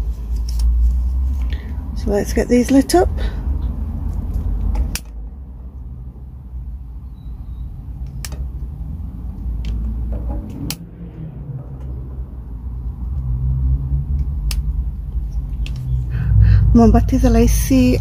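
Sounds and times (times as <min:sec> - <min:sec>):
low rumble: 0:03.1 - 0:18.0.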